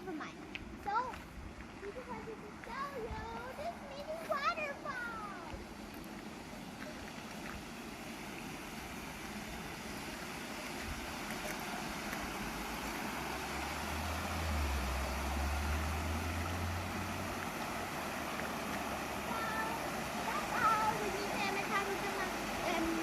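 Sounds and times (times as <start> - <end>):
small waterfall rushing: 0.0 - 23.0.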